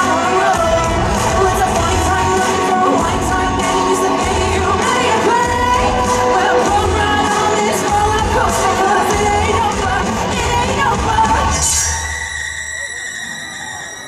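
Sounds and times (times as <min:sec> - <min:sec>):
loud pop music with singing: 0:00.0 - 0:14.0.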